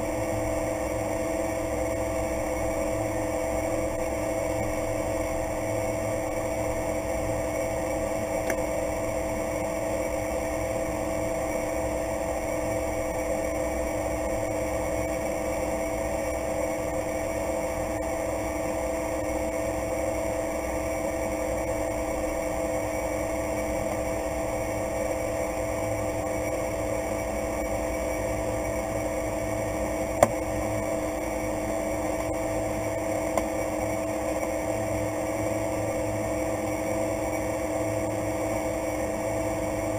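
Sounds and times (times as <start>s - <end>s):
turboprop engine humming: 0.0s - 39.9s.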